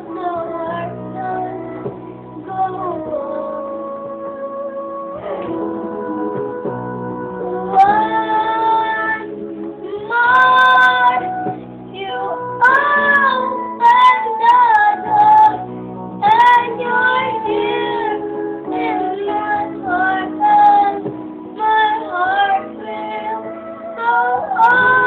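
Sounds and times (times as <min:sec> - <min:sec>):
girl singing: 0:00.0 - 0:25.0
instrumental backing music: 0:00.0 - 0:25.0.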